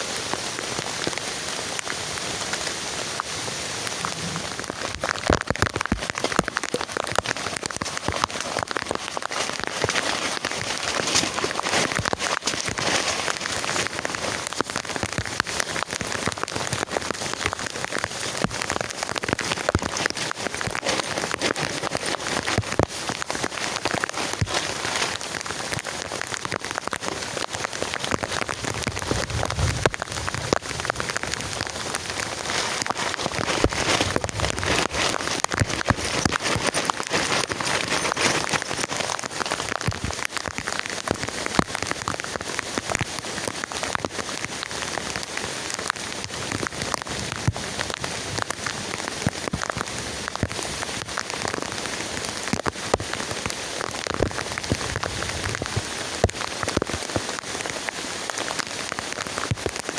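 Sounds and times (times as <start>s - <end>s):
heavy rain falling: 0.0s - 59.9s
raindrops pattering on a surface: 0.0s - 59.9s.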